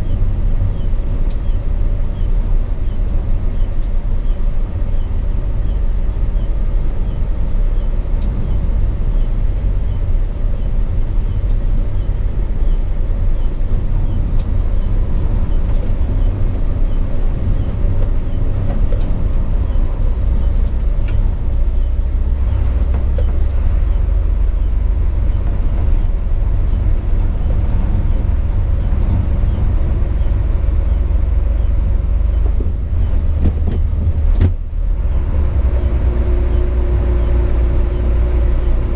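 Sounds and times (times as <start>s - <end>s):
road noise: 0.0s - 38.9s
truck engine low rumble: 0.0s - 38.9s.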